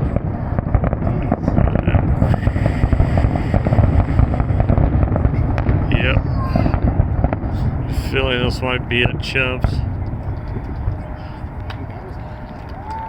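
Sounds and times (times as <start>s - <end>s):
fireworks booming and crackling: 0.0s - 13.0s.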